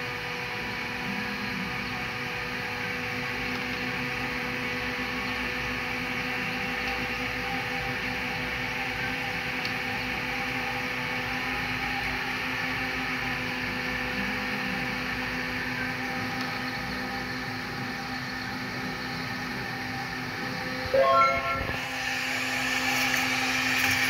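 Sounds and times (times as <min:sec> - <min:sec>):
laser engraver whirring and humming: 0:00.0 - 0:24.0.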